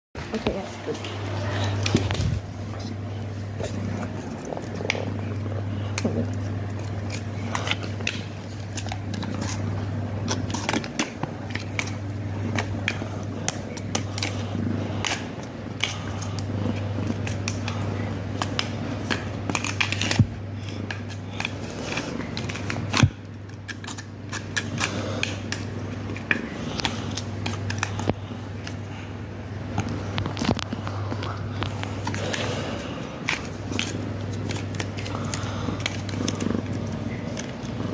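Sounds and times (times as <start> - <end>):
kitten scratching and rustling ribbon: 1.7 - 29.1, 29.9 - 37.9.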